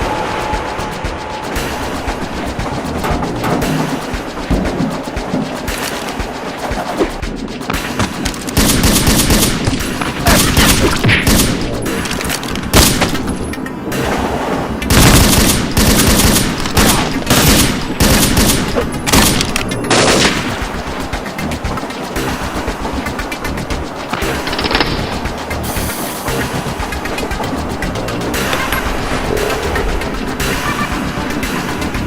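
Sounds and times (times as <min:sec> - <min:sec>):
rapid gunshots: 0:00.0 - 0:13.3, 0:14.9 - 0:27.6.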